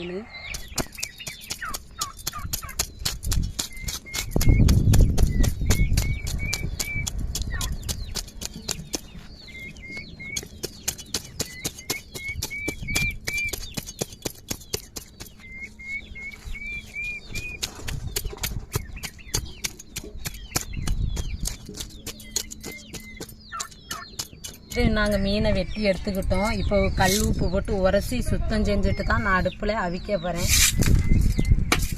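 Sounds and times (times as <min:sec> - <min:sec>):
bird chirping: 0:00.0 - 0:31.9.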